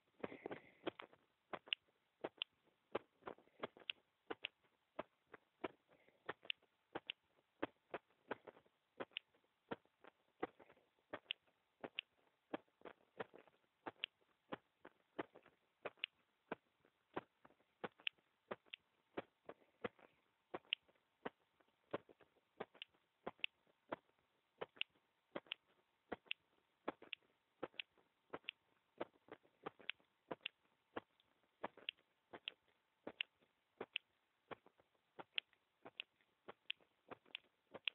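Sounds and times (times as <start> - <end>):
human heartbeat: 0.0 - 37.9.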